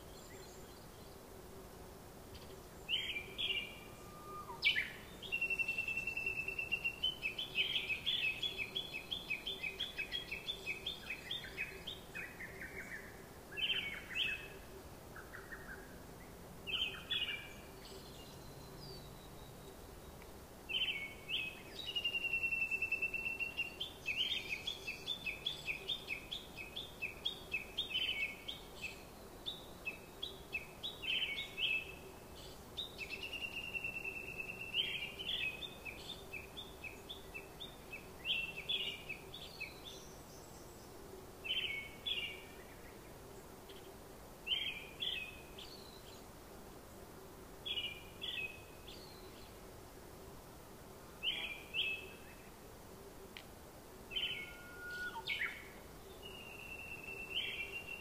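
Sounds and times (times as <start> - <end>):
faint steady hum: 0.0 - 58.0
birds chirping: 2.3 - 46.4, 51.2 - 52.6, 54.1 - 58.0.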